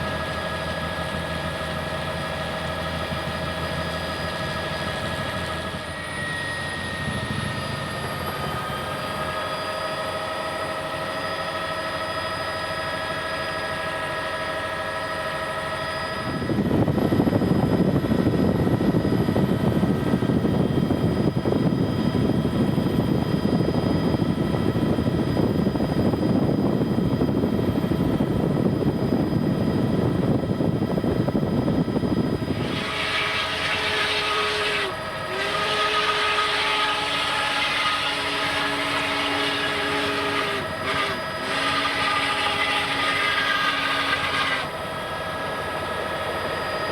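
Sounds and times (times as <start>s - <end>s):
helicopter rotor noise: 0.0s - 46.9s
helicopter turbine whine: 0.0s - 46.9s.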